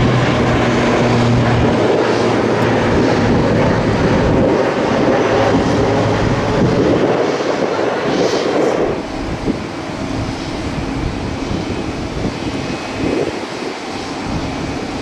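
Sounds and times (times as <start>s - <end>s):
distant aircraft engines humming: 0.0s - 15.0s
wind buffeting microphone: 0.0s - 15.0s.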